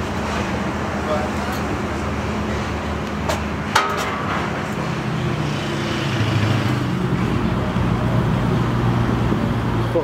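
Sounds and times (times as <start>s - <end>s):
street traffic engine hum: 0.0s - 10.0s.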